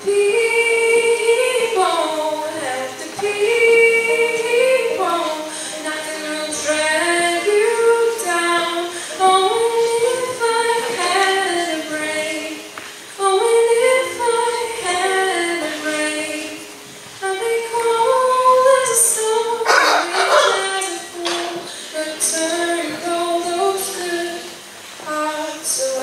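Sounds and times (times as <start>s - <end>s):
woman singing a slow melody: 0.0s - 26.0s.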